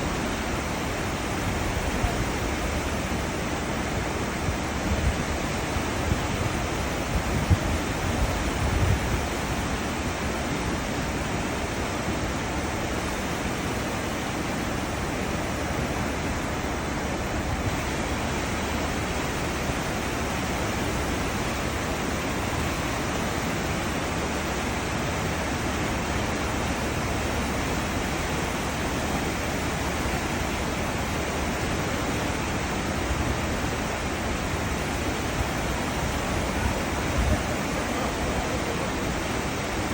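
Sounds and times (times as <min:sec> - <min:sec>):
churning seawater rushing: 0:00.0 - 0:39.9.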